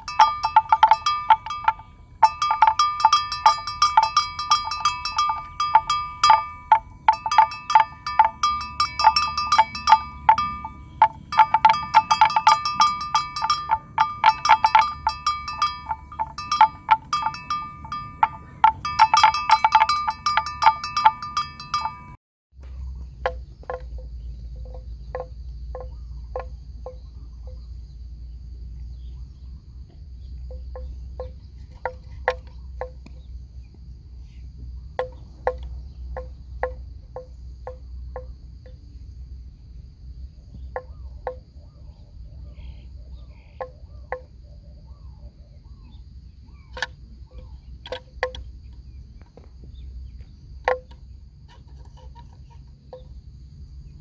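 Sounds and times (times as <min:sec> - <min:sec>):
animal bell clanking: 0:00.0 - 0:22.2, 0:22.9 - 0:28.0, 0:30.2 - 0:33.5, 0:34.3 - 0:39.0, 0:40.5 - 0:45.1, 0:45.7 - 0:54.0
faint insect drone: 0:00.0 - 0:54.0.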